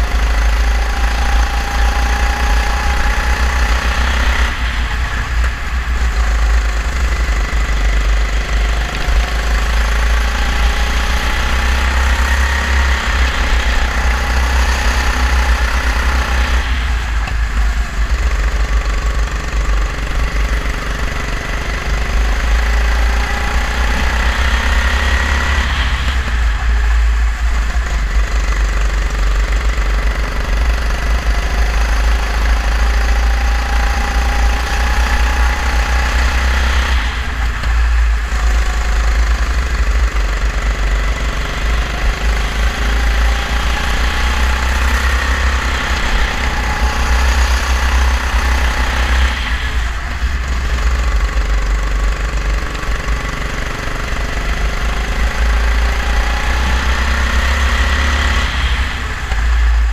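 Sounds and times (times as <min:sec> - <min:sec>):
kart engine at racing speed: 0:00.0 - 0:59.9.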